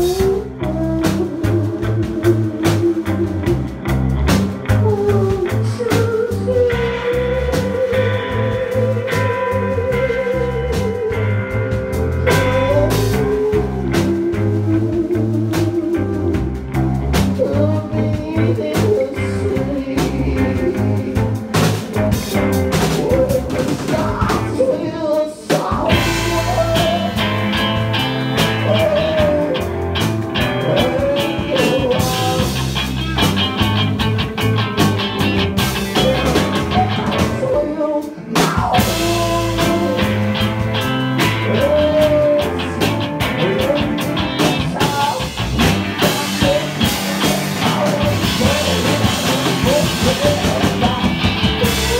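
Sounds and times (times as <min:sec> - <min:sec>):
live rock band playing: 0:00.0 - 0:51.9
person singing: 0:00.0 - 0:51.9.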